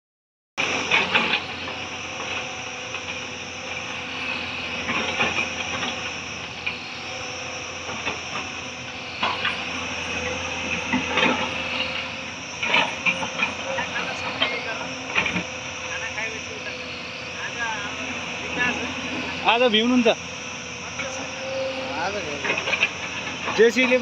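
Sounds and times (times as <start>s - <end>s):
excavator diesel engine: 0.6s - 24.0s
hydraulic hiss and whine: 0.6s - 24.0s.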